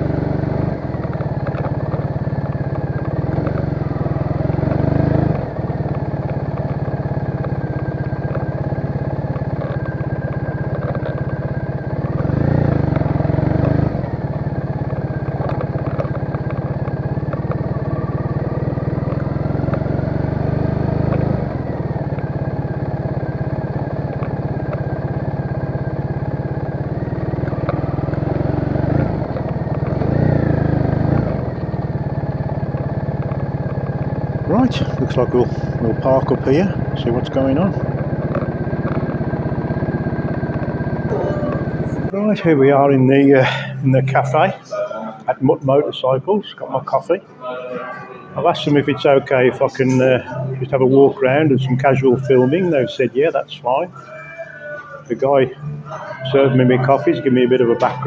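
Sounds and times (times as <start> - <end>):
motorcycle engine revving: 0.0 - 47.3, 48.3 - 58.0.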